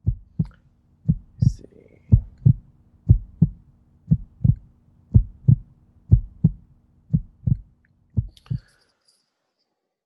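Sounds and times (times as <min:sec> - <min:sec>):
heartbeat thumps: 0:00.0 - 0:08.7
faint steady low hum: 0:00.0 - 0:09.8.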